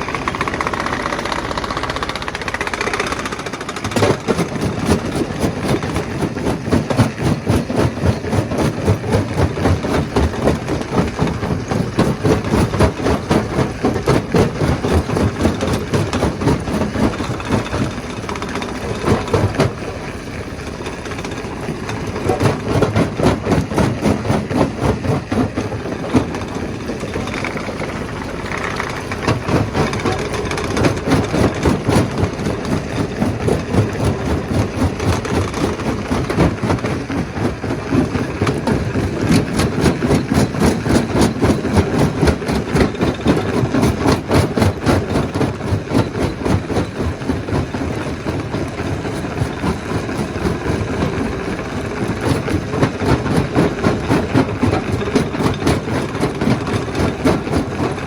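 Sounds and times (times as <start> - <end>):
stone crusher droning and rattling: 0.0 - 58.0.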